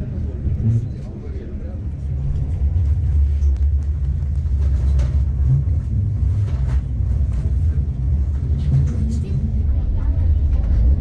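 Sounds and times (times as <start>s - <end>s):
train carriage low rumble: 0.0s - 11.0s.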